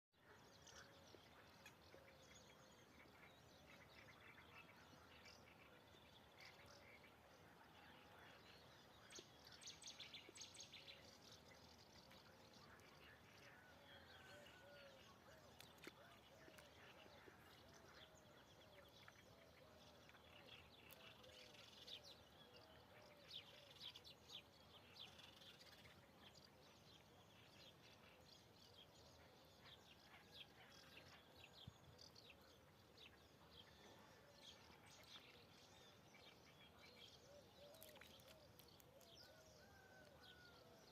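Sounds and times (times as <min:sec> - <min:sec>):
birds chirping: 0:00.4 - 0:40.9.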